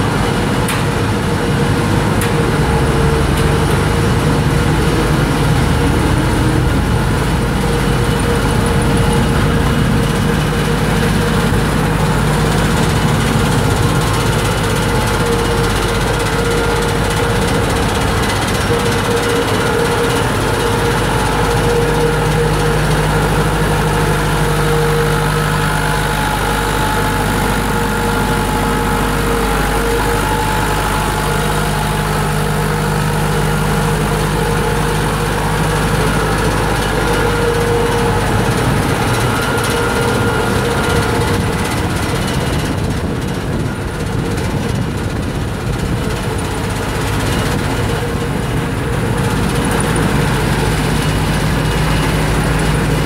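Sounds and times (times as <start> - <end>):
feed wagon unloading: 0.0 - 53.0
tractor diesel engine running: 0.0 - 53.0.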